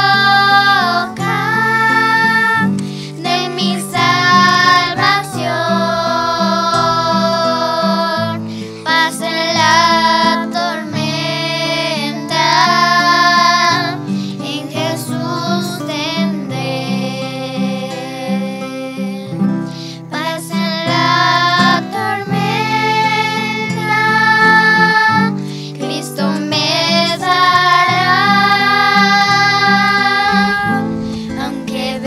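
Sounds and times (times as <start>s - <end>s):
girls singing a hymn: 0.0s - 32.0s.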